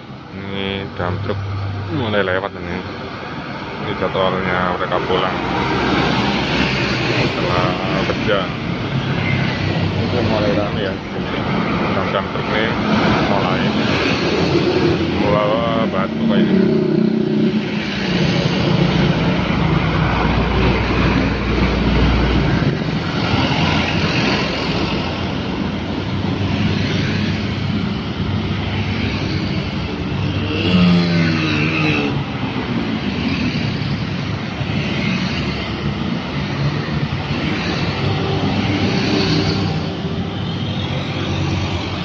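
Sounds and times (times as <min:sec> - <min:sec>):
dump truck engine rumble: 0:00.0 - 0:42.0
motorcycles and cars passing: 0:00.0 - 0:42.0.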